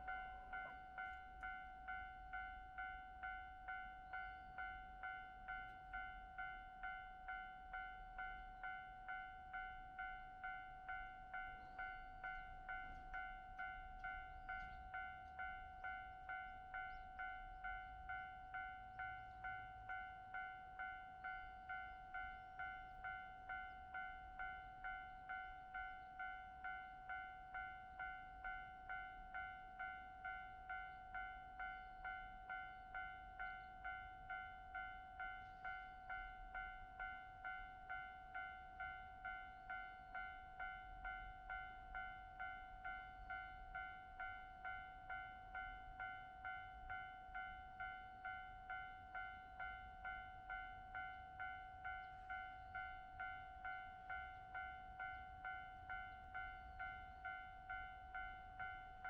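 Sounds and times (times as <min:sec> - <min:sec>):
level crossing electronic bell: 0:00.0 - 0:59.0.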